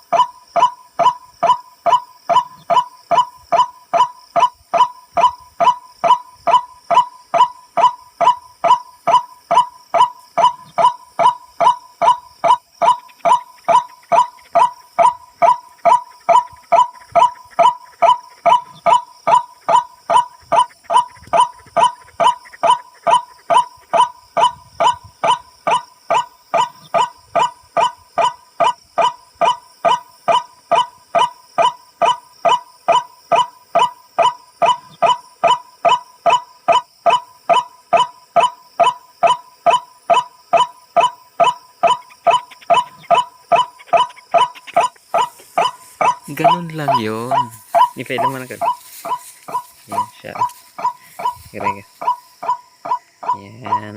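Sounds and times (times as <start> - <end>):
repeated nasal bird call: 0.0 - 53.9.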